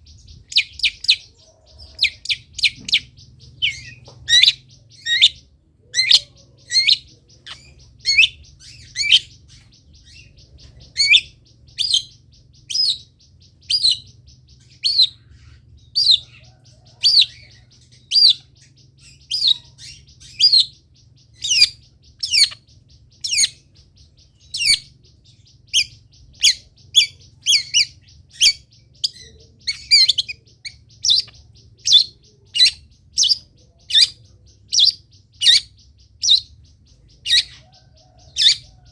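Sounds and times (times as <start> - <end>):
faint low hum: 0.0 - 38.9
songbird chirping: 0.0 - 38.9.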